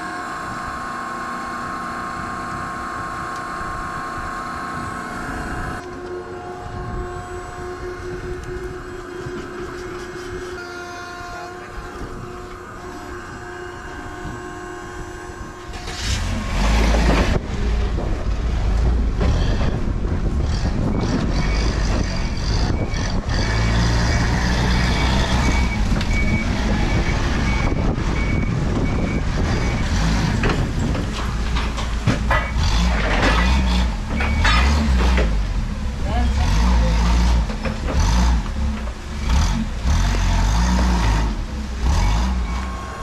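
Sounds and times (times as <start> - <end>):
forklift engine rumbling: 0.0 - 43.0.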